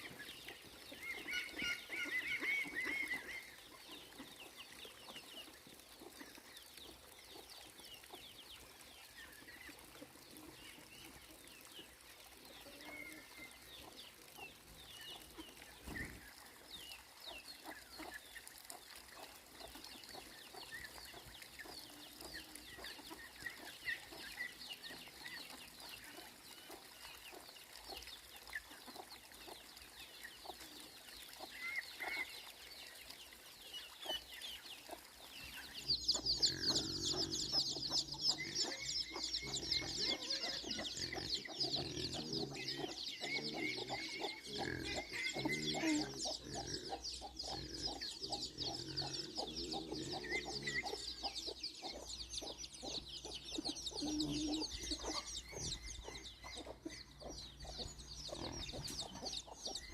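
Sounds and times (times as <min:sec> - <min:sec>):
chickens clucking: 0:00.0 - 0:32.4, 0:33.6 - 0:59.9.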